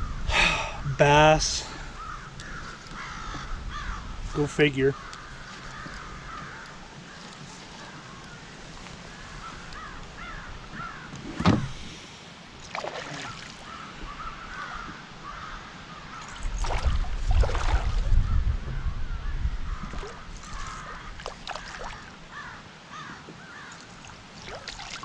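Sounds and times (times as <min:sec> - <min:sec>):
birds calling: 0:00.0 - 0:25.0
handling and water noise: 0:01.0 - 0:19.0, 0:19.7 - 0:25.0.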